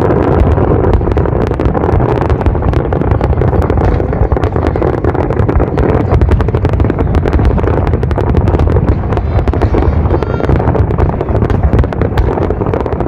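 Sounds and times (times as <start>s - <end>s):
firework booms: 0.0s - 13.0s
firework crackling: 0.0s - 13.0s.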